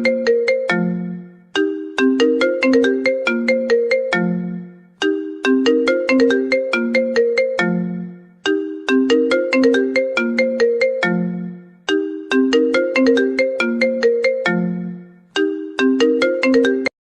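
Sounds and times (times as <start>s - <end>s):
phone ringtone melody: 0.0s - 17.0s.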